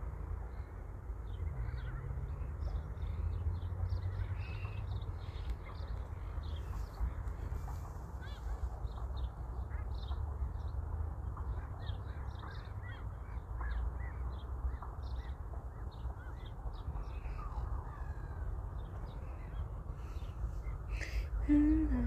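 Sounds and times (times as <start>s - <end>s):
flock of birds calling: 1.6s - 10.6s, 11.4s - 21.4s.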